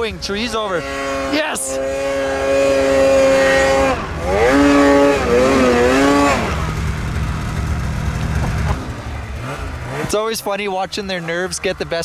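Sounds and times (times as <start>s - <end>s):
snowmobile engine revving: 0.1s - 12.0s.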